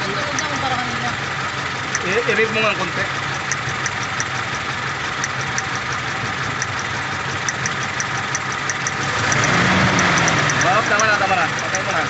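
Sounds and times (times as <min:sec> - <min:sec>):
car engine idling with misfire: 0:00.0 - 0:12.0
high ticking: 0:00.0 - 0:12.0.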